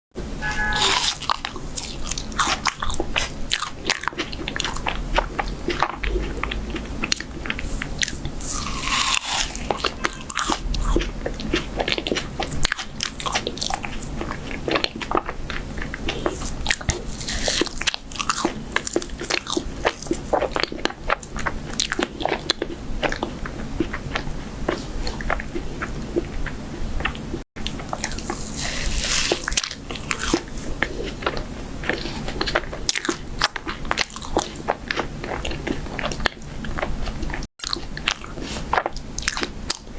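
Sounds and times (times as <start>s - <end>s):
person biting and chewing: 0.5s - 39.9s.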